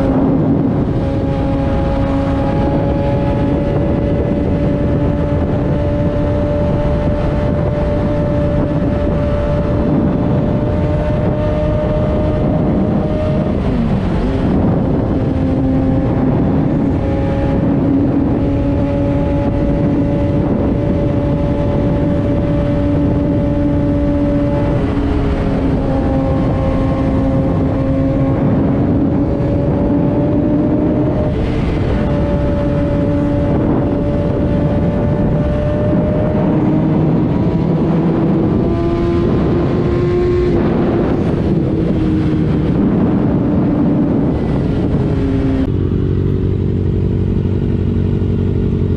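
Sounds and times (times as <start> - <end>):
motorcycle engine running: 0.0 - 48.9
wind and road noise: 0.0 - 48.9.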